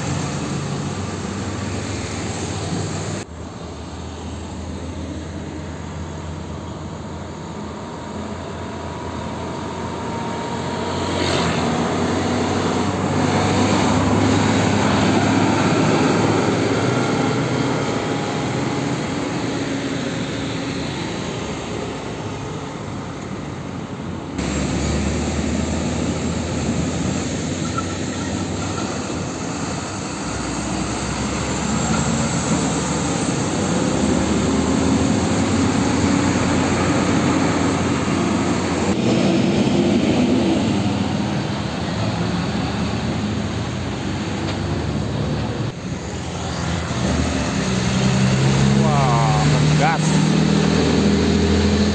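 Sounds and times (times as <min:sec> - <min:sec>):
diesel trucks passing: 0:00.0 - 0:51.9
traffic noise: 0:00.0 - 0:51.9.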